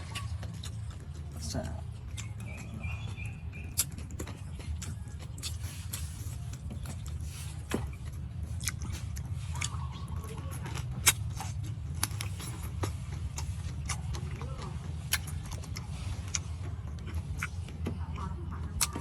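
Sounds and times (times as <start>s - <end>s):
steady low hum: 0.0s - 19.0s
wet chewing and biting: 0.0s - 19.0s.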